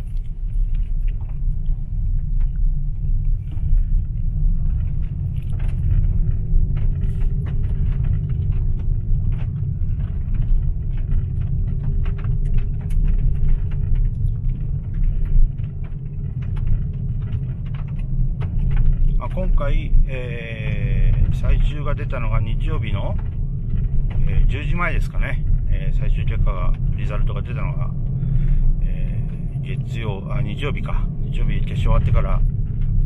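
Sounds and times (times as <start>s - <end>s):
loose stones clicking: 0.0s - 33.0s
tyres rumbling on gravel: 0.0s - 33.0s.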